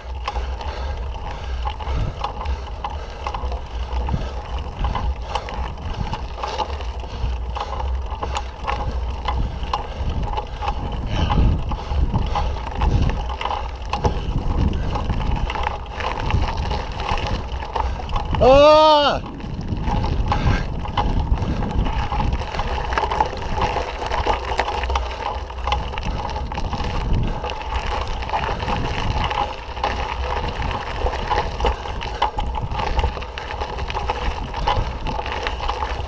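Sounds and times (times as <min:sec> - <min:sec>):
mountain bike rattling: 0:00.0 - 0:36.0
steady low rumble: 0:00.0 - 0:36.0
wind buffeting microphone: 0:00.0 - 0:36.0.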